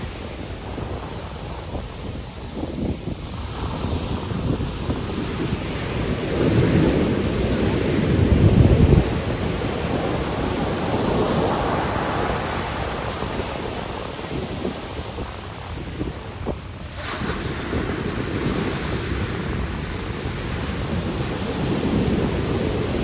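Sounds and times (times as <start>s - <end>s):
large waves breaking: 0.0s - 23.0s
wind buffeting microphone: 0.0s - 23.0s.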